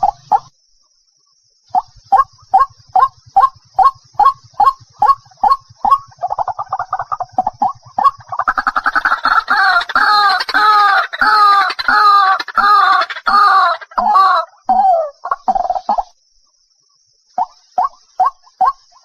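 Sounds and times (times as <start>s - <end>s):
bird calling with rattling trill: 0.0s - 0.5s, 1.7s - 16.2s, 17.3s - 19.0s.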